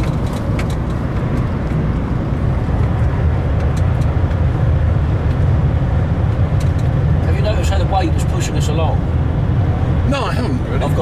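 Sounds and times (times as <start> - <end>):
tyre and road noise: 0.0 - 11.0.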